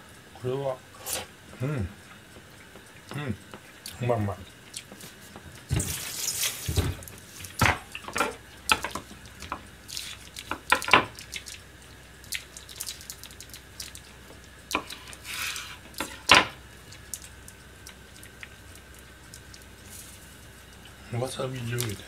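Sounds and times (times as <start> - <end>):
running water: 0.0 - 22.0.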